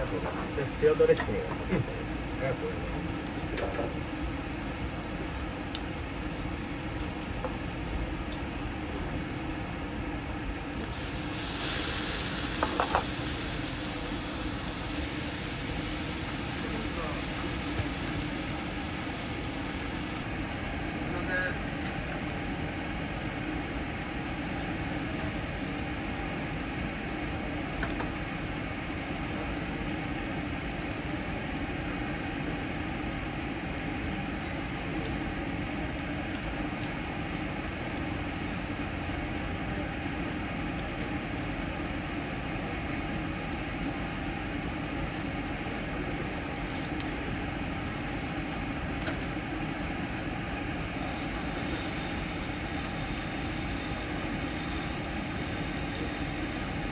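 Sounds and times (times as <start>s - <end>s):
grill sizzling: 0.0s - 56.9s.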